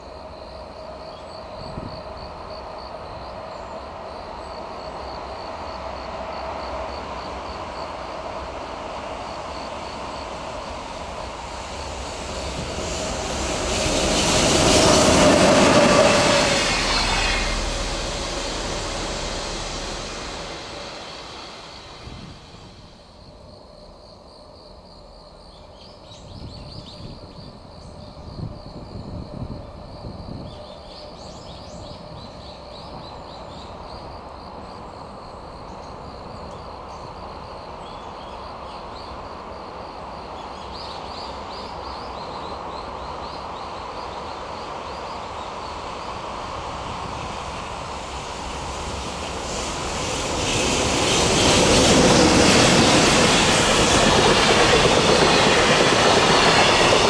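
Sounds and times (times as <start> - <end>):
freight train rumble: 0.0 - 57.0.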